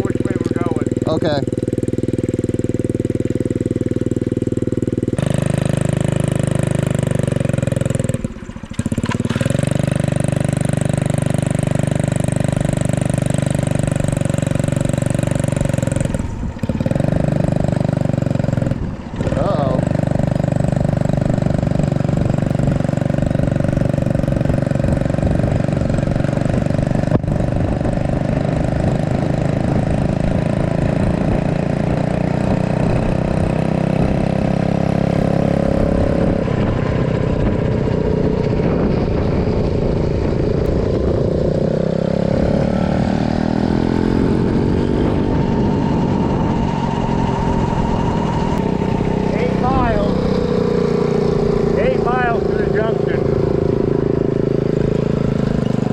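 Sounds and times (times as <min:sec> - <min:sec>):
mini bike engine running: 0:00.0 - 0:55.9.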